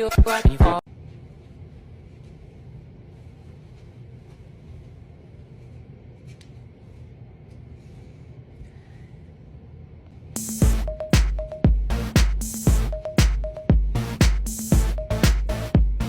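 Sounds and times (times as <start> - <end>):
steady low hum: 0.9 - 16.0.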